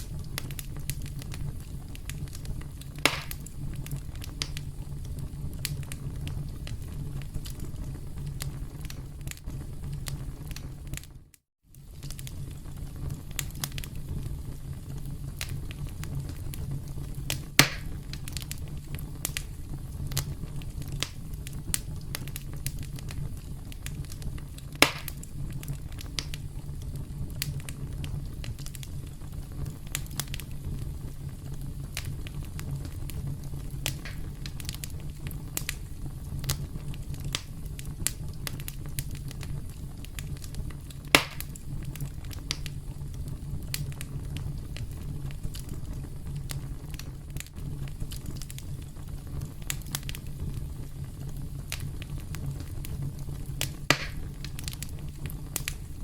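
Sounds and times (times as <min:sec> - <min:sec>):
campfire crackling and popping: 0:00.0 - 0:56.0
low rumble of fire: 0:00.0 - 0:56.0.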